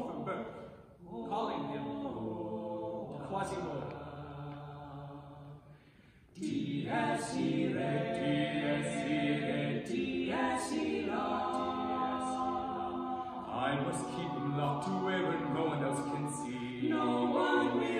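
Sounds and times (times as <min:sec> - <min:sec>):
male quartet singing a cappella: 0:00.0 - 0:05.7, 0:06.4 - 0:17.9.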